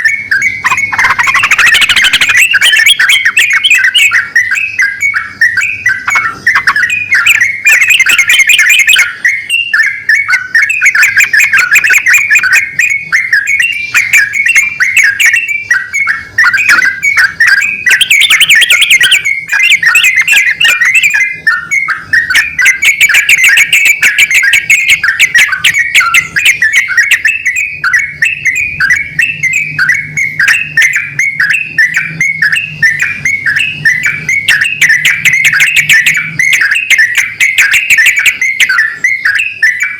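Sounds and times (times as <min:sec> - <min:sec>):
birds singing bubbling phrases: 0:00.0 - 0:39.9.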